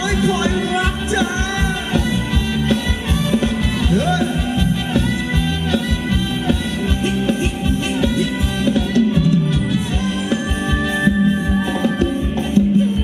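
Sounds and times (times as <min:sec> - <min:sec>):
drum kit beat: 0:00.0 - 0:13.0
live band dance music: 0:00.0 - 0:13.0.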